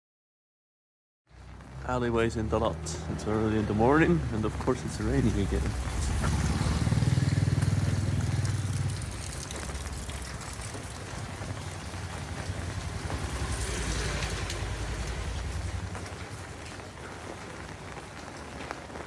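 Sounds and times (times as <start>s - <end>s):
rain falling: 1.3s - 19.0s
drops dripping on hard surfaces: 1.4s - 19.0s.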